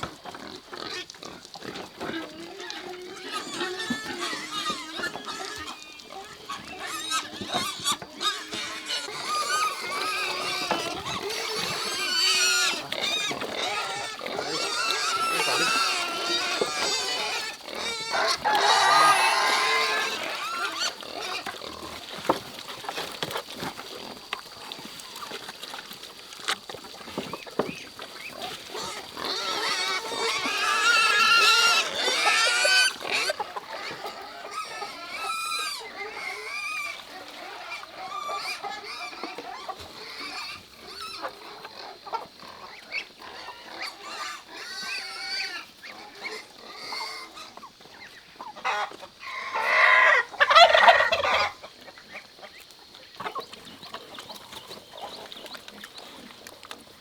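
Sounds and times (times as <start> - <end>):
poultry calling: 0.0 - 22.4, 27.1 - 56.3.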